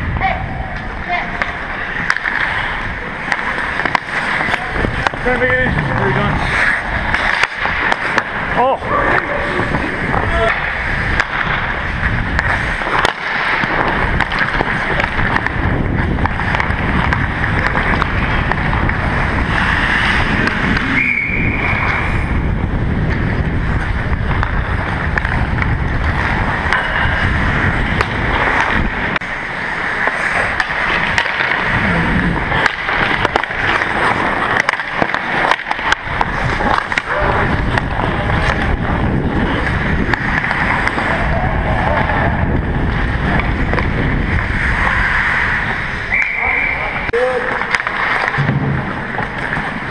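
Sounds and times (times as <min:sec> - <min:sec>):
rushing wind noise: 0:00.0 - 0:34.5, 0:35.8 - 0:46.2
skate blades scraping ice: 0:00.0 - 0:49.9.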